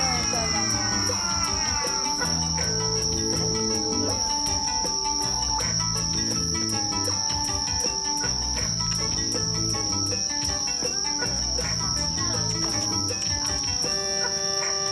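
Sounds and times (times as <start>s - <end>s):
insects trilling: 0.0s - 14.9s
music over loudspeakers: 0.0s - 14.9s.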